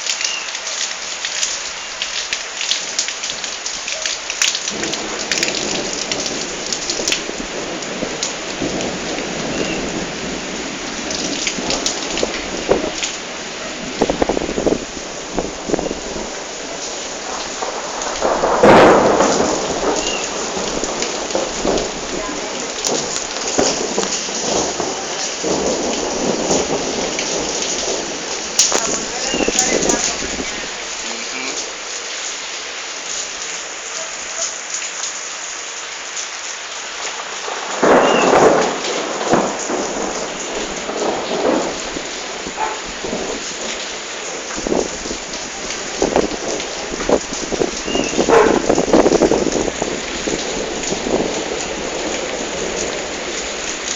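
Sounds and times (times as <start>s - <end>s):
rain falling: 0.0s - 53.9s
thunderclap rumbling: 4.5s - 31.8s, 36.9s - 53.9s.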